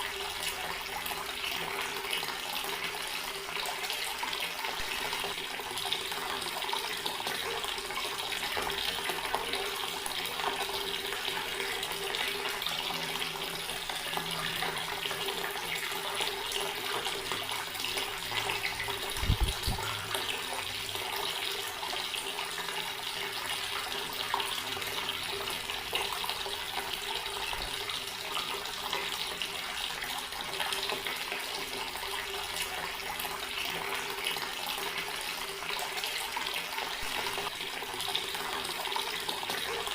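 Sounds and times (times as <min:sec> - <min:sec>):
tap water splashing into basin: 0:00.1 - 0:39.9.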